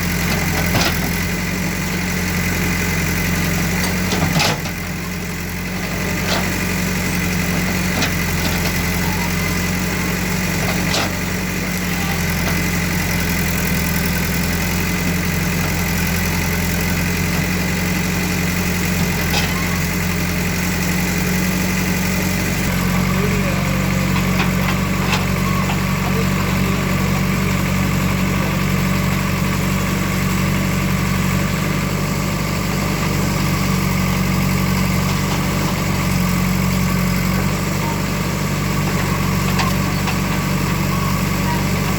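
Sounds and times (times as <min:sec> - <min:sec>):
heavy machine engine idling: 0:00.0 - 0:41.9.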